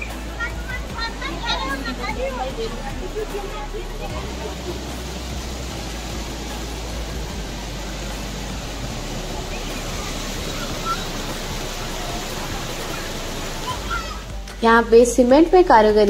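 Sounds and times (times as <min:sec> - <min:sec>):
stream water rushing over boulders: 0:00.0 - 0:14.7.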